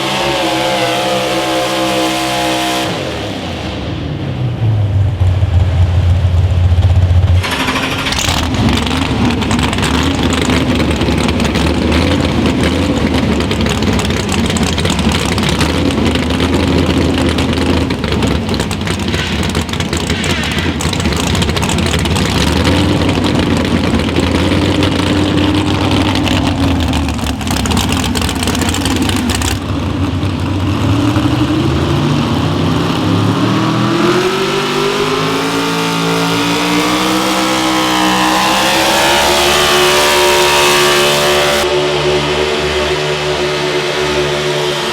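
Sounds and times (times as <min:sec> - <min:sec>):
pulling vehicle engine under load: 0:05.2 - 0:41.8.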